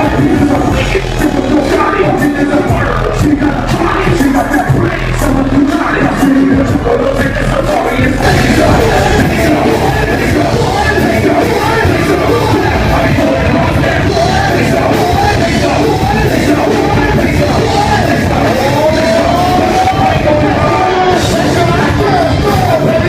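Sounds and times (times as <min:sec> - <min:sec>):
live rock music over pa: 0:00.0 - 0:23.0
vocalist yelling and singing: 0:00.0 - 0:23.0.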